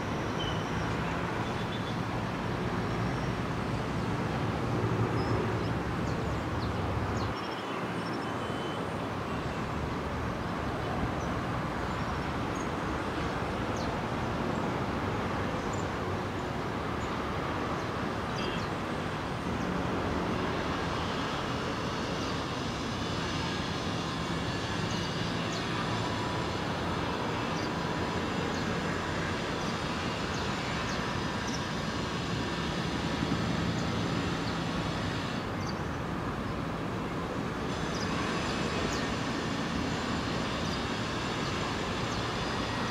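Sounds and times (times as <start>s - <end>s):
distant aircraft noise: 0.0s - 42.9s.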